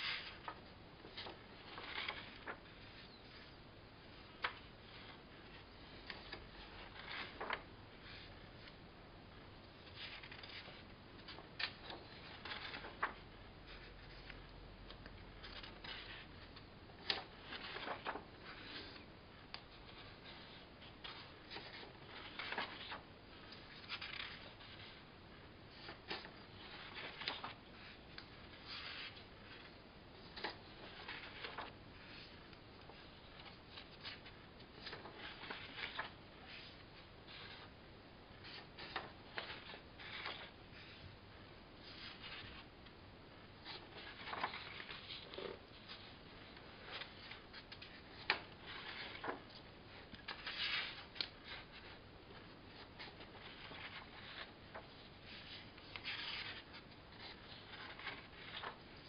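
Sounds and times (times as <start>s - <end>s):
rustling and scratching handling noise: 0.0s - 59.0s.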